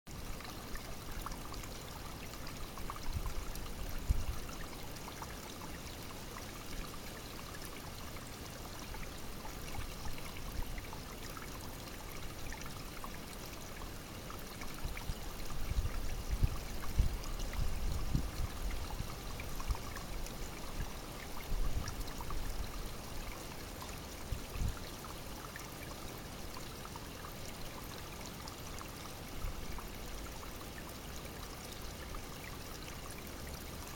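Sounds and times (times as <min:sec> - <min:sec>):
brook babbling: 0:00.1 - 0:33.9.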